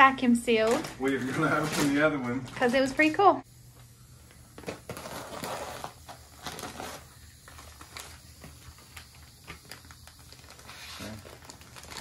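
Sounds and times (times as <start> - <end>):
plastic wrap crinkling: 0.2 - 3.3, 4.3 - 12.0.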